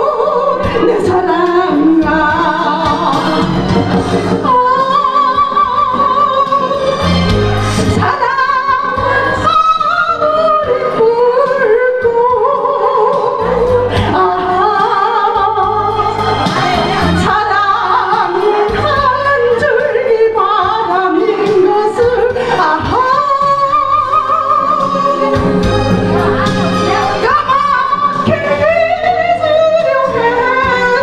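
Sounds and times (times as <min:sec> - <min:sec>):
karaoke backing track: 0:00.0 - 0:31.0
woman singing into microphone: 0:00.0 - 0:31.0.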